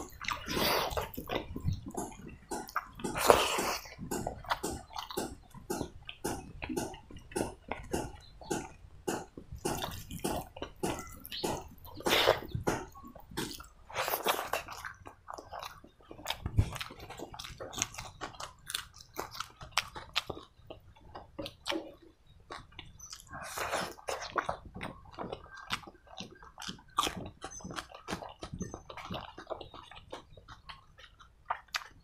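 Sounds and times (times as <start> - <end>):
wet smacking chewing: 0.0 - 32.0.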